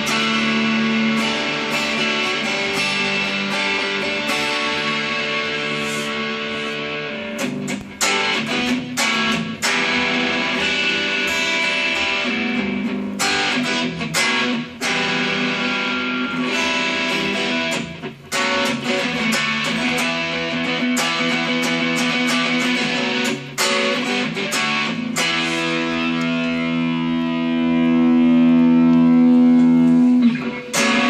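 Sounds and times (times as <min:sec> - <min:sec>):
overdriven electric guitar chords: 0:00.0 - 0:31.0.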